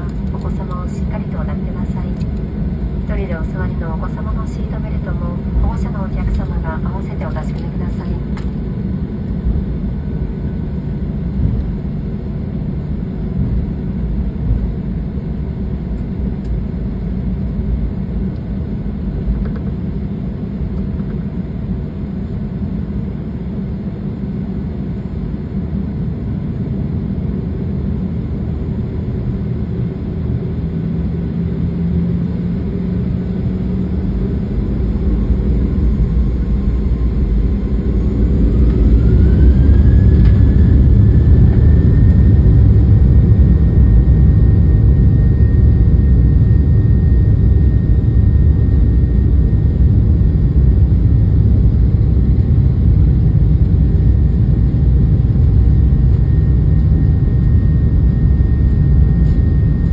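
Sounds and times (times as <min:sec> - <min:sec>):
jet engine rumble and hiss: 0:00.0 - 0:59.9
jet engines spooling up whine: 0:00.0 - 0:59.9.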